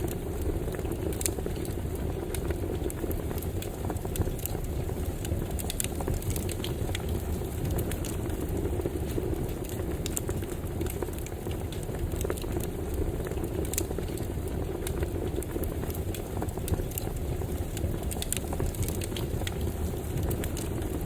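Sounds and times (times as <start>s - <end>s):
low rumble of flames: 0.0s - 21.0s
wood crackling and popping: 0.0s - 21.0s.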